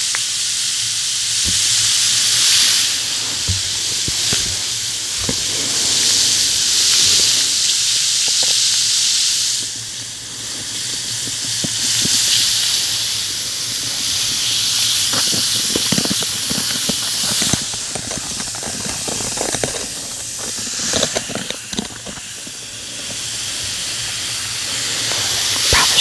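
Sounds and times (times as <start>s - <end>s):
bath bomb fizzing in water: 0.2s - 26.0s
crackling pops: 1.0s - 26.0s.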